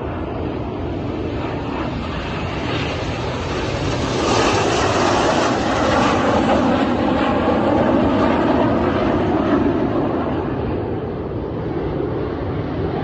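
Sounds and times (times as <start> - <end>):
jets taking off: 0.0 - 13.0.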